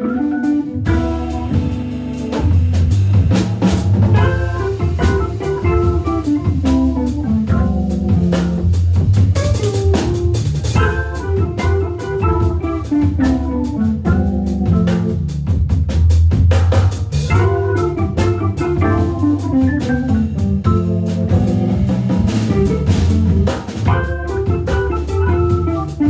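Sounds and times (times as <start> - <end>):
electric guitar: 0.0 - 15.1, 17.3 - 26.0
organ: 0.0 - 15.5, 17.2 - 26.0
busy drumming: 0.0 - 26.0.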